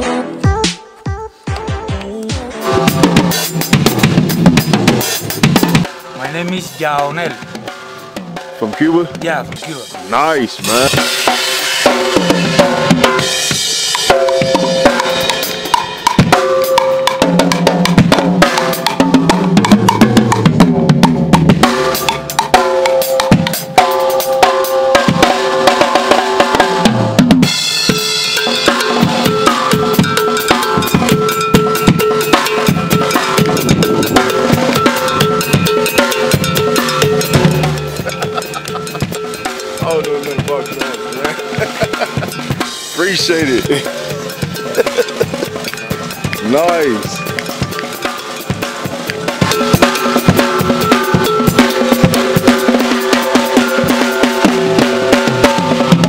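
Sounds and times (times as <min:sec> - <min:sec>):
drum kit playing: 0:00.0 - 0:56.0.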